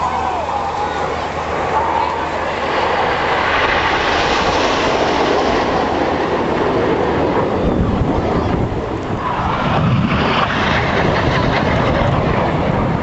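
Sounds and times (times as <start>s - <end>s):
jets flying over: 0.0s - 13.0s.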